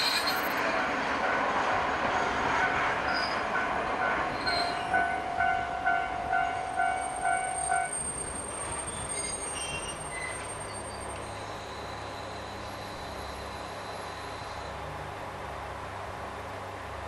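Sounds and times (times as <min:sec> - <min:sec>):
passing diesel railcar: 0:00.0 - 0:17.0.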